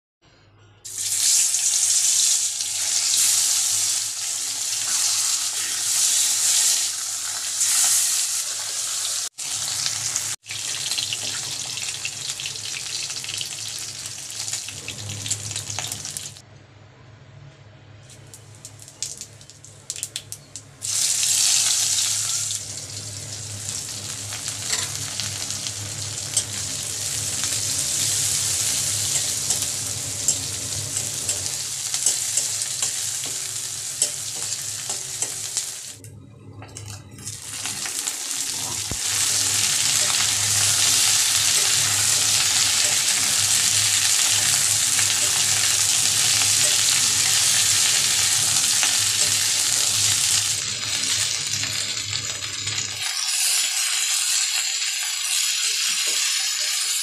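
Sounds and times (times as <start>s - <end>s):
hot oil sizzling and spitting: 0.9s - 16.4s, 18.1s - 36.0s, 36.8s - 57.0s.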